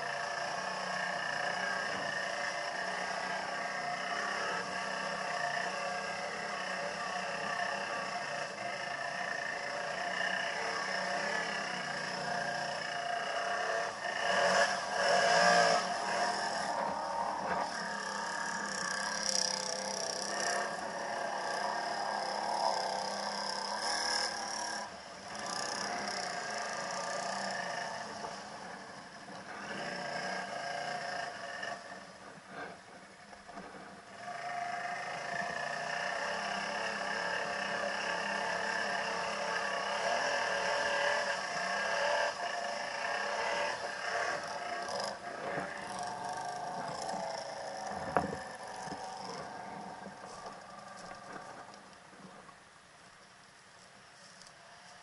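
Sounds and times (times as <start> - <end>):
atv engine revving: 0.0 - 52.5.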